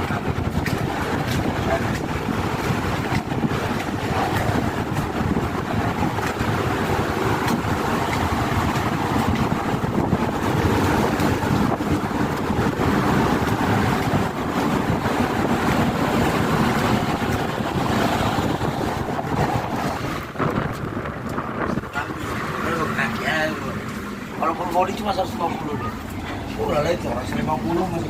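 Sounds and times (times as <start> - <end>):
ship rumble and rushing: 0.0 - 28.0
wind buffeting microphone: 0.0 - 28.0.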